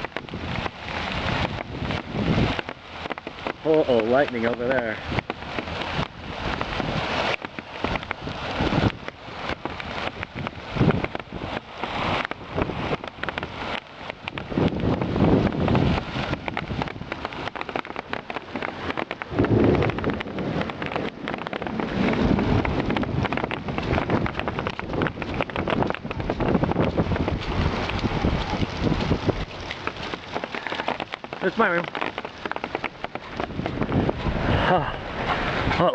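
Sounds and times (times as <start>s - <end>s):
hail and heavy rain pelting: 0.0s - 35.9s
thunder rumbling: 4.3s - 35.8s.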